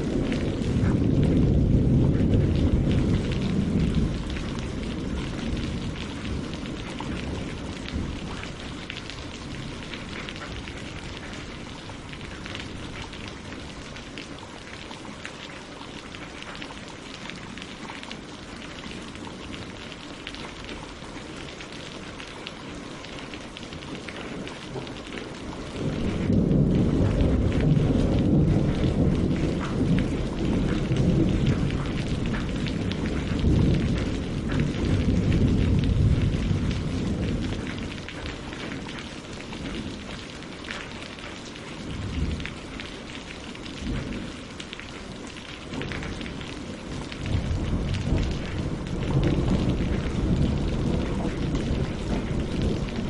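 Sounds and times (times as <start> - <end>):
thunder rumbling: 0.0 - 14.4, 23.7 - 53.0
rain on leaves and water: 0.0 - 53.0.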